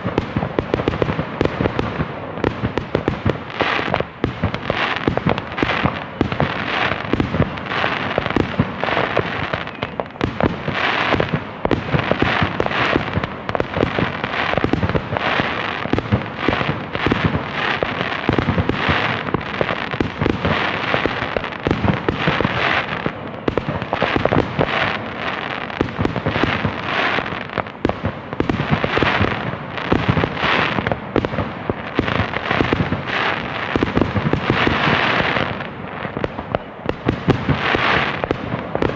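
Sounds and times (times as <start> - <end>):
fireworks bursts: 0.0 - 38.9
fireworks crackling and popping: 0.0 - 38.9.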